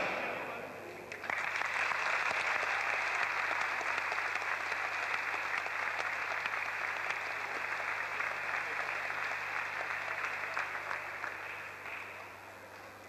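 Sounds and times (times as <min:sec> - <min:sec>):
audience applause: 0:01.1 - 0:13.0.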